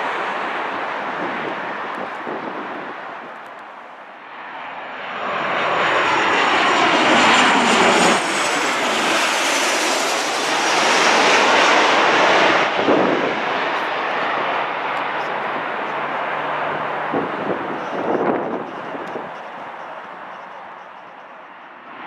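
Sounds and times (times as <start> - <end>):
jet engines passing overhead: 0.0 - 22.0.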